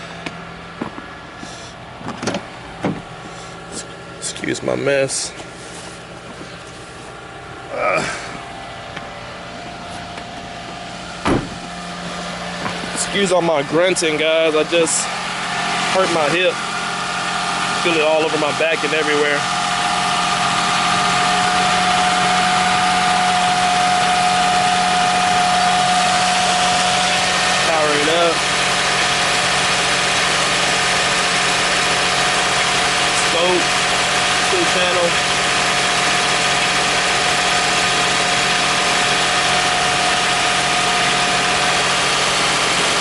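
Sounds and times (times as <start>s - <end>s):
car engine idling: 0.0s - 43.0s
steady whine: 0.0s - 43.0s.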